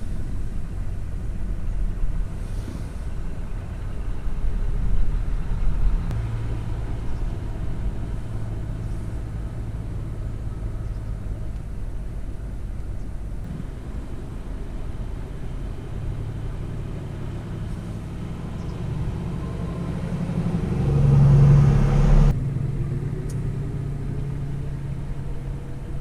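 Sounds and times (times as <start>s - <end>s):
vehicle engine running low: 0.0s - 26.0s.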